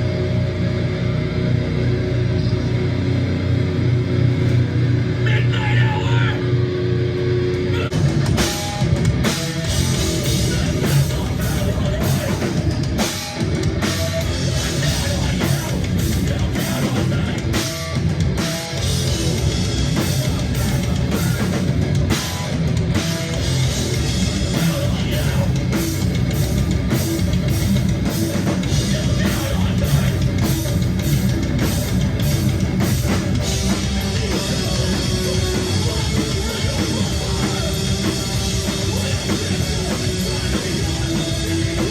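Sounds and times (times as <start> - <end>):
bass guitar: 0.0 - 41.9
electric guitars: 0.0 - 41.9
pounding drum kit: 0.0 - 41.9.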